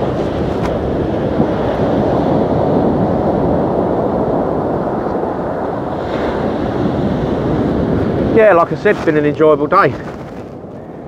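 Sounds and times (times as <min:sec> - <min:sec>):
sea waves breaking on beach: 0:00.0 - 0:11.0.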